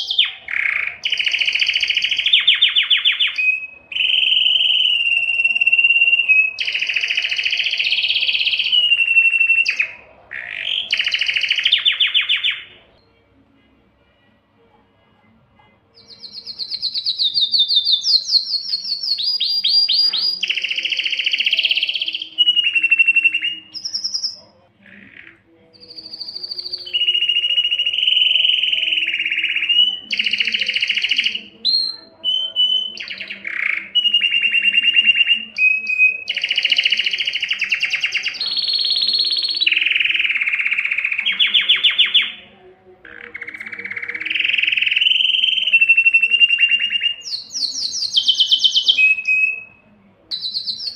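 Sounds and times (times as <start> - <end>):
canary singing trills: 0.0 - 13.3, 15.6 - 50.9.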